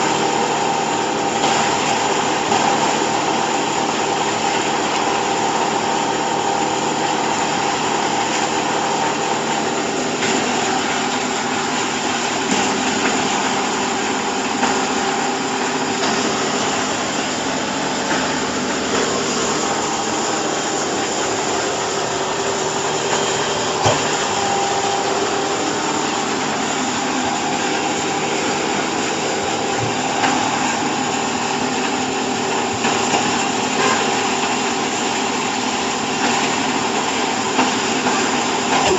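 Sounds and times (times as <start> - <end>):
baler mechanical hum: 0.0 - 38.9.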